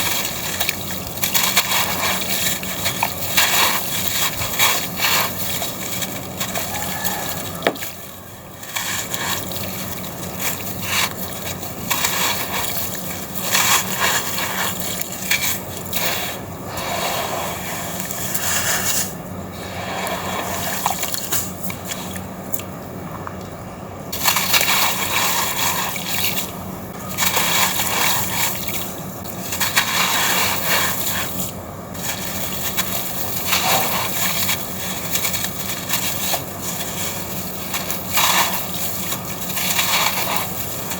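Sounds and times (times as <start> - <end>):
sand-cement chunks crumbling in water: 0.0 - 19.2, 24.1 - 40.9.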